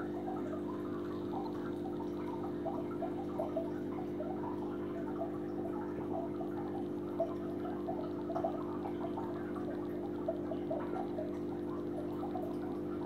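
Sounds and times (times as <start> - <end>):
aquarium pump humming: 0.0 - 13.0
water bubbling and trickling: 0.0 - 13.0.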